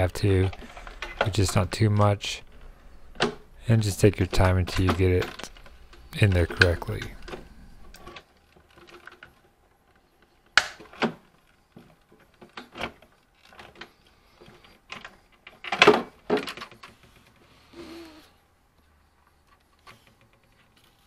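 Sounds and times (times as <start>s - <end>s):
hands handling circuit board: 0.0s - 17.0s.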